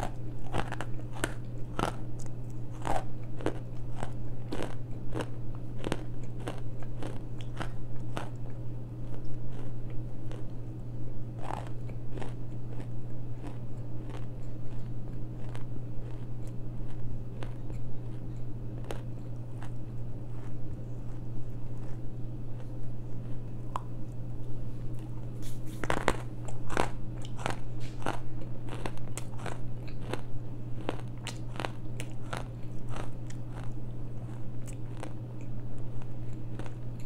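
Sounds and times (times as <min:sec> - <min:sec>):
crunchy chewing of clay: 0:00.0 - 0:37.0
steady low hum: 0:00.0 - 0:37.0.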